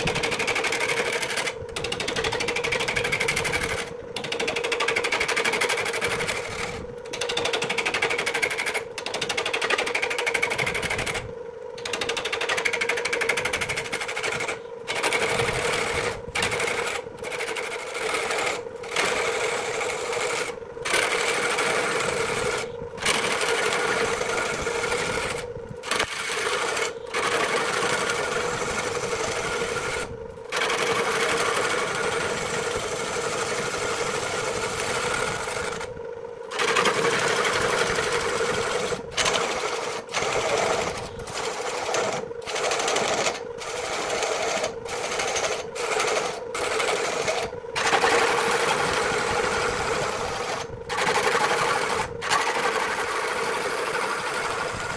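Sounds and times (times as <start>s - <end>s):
gouge scraping spinning wood: 0.0s - 54.9s
wood lathe humming: 0.0s - 54.9s.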